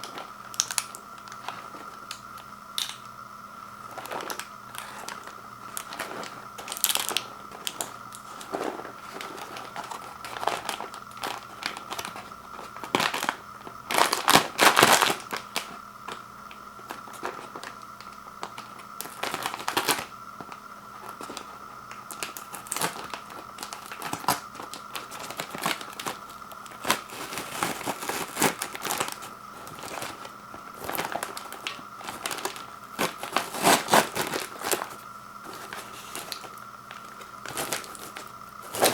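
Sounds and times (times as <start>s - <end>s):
faint steady hum: 0.0s - 38.9s
packaging crinkling: 0.0s - 38.9s.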